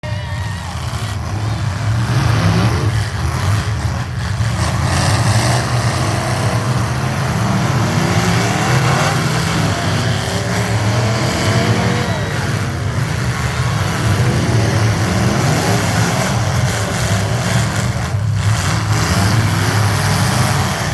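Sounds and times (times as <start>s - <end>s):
truck engines revving: 0.0s - 20.9s.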